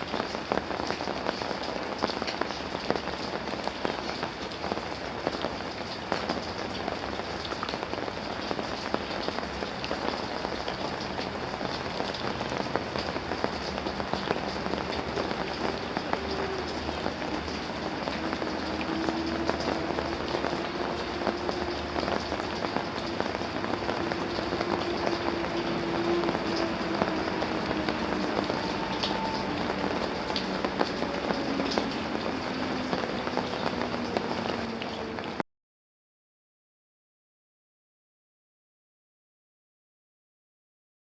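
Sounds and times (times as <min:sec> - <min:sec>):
rain pattering: 0:00.0 - 0:35.4.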